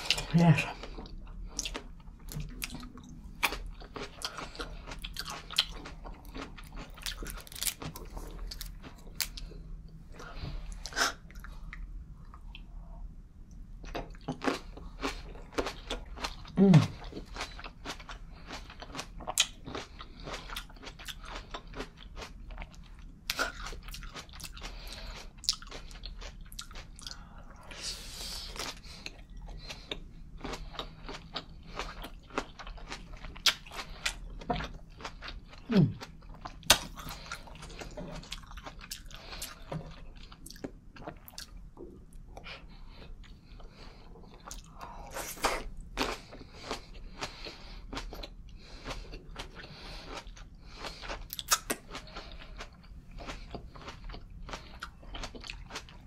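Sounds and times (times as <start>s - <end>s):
person chewing with mouth clicks: 0.0s - 9.5s, 13.8s - 56.0s.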